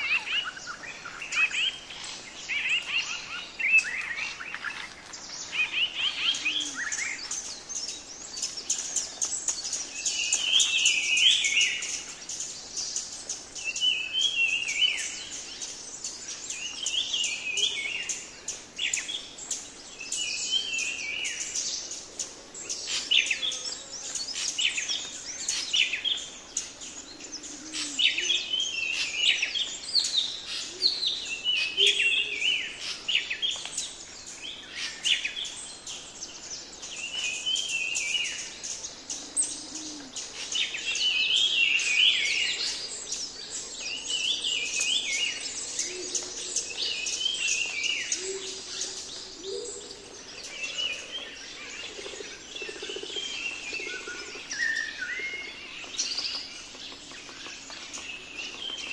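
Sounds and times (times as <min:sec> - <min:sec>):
small birds chirping and twittering: 0:00.0 - 0:58.9.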